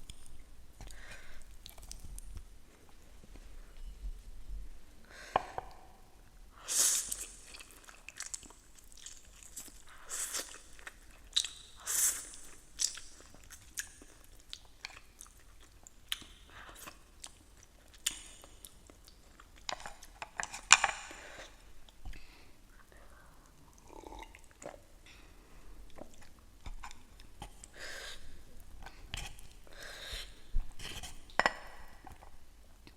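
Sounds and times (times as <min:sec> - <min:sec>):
person chewing and crunching food: 0:00.0 - 0:03.0, 0:07.0 - 0:32.9.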